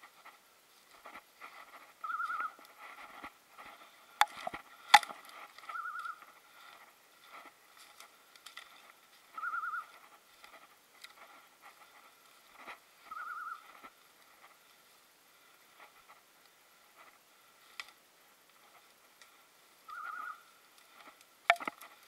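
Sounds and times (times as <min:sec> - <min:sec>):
leaves crackling underfoot: 0:00.0 - 0:22.0
twigs cracking: 0:00.9 - 0:14.8, 0:15.6 - 0:22.0.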